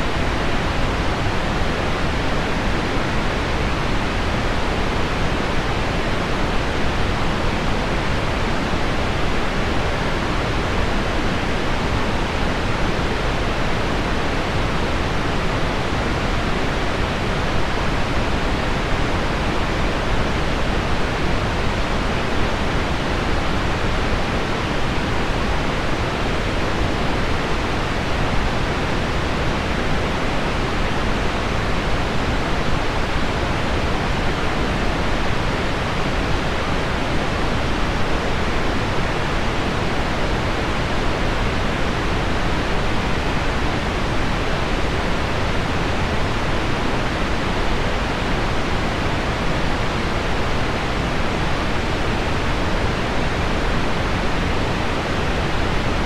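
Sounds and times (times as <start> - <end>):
low pink noise: 0.0 - 56.0.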